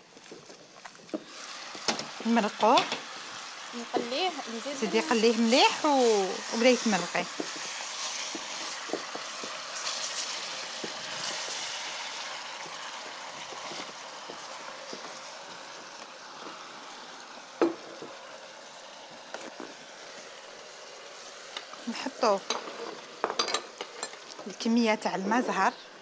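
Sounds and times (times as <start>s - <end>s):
sauce sizzling in a pot: 0.0s - 26.0s.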